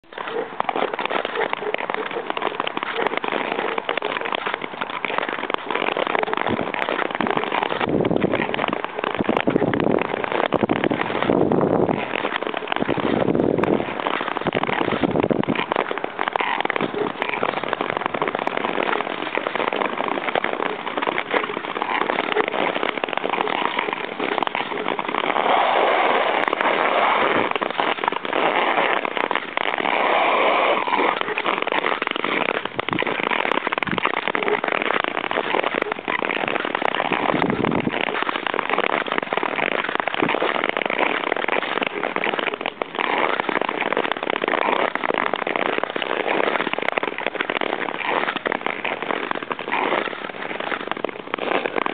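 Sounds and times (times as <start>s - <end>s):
skates scraping on ice: 0.0s - 51.9s
crackling clicks of ice: 0.1s - 51.9s.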